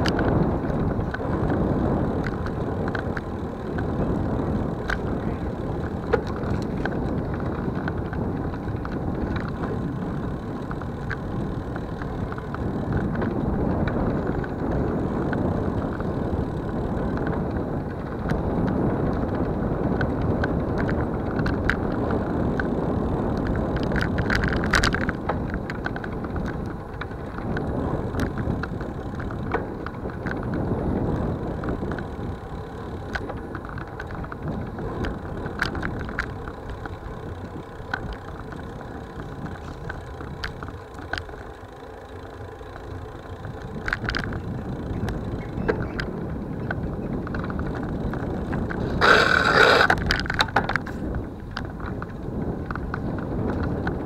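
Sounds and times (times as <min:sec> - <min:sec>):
light clicks and rattles: 0:00.0 - 0:16.1, 0:23.3 - 0:54.0
road rumble: 0:00.0 - 0:54.0
wind buffeting microphone: 0:00.0 - 0:54.0.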